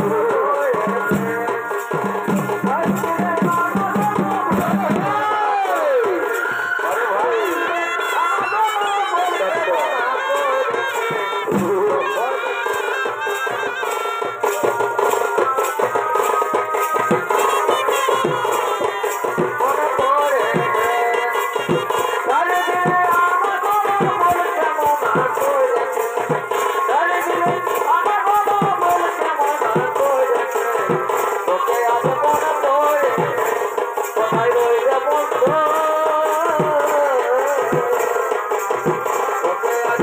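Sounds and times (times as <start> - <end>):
drum beats: 0.0 - 40.0
shehnai melody: 0.0 - 40.0.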